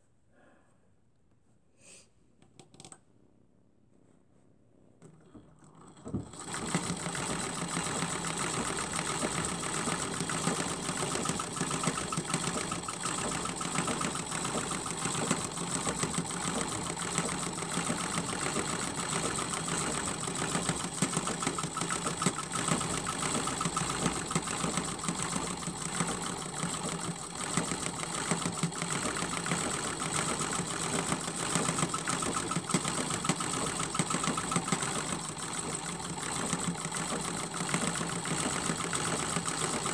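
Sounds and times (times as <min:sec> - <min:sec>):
sewing machine running: 0:05.6 - 0:39.9.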